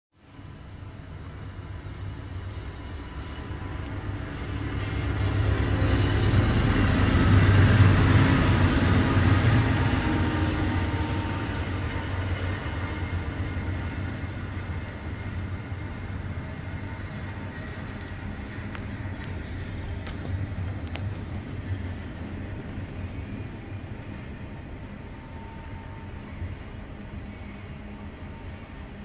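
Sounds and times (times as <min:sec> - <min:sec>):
diesel locomotive engine drone: 0:00.2 - 0:29.0
train cars rolling by: 0:00.2 - 0:29.0.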